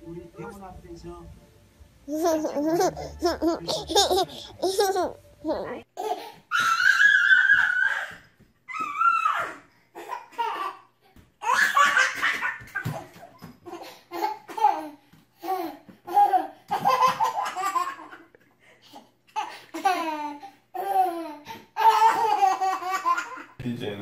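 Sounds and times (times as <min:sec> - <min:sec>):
toddler laughing: 0:02.1 - 0:08.2, 0:08.8 - 0:18.4, 0:19.3 - 0:23.6.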